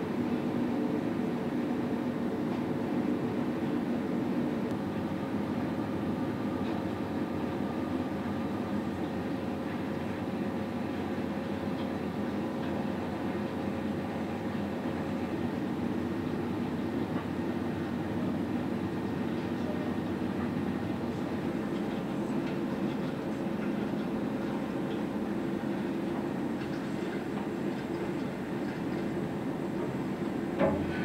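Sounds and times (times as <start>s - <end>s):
ship machinery and ventilation hum: 0.0s - 31.0s.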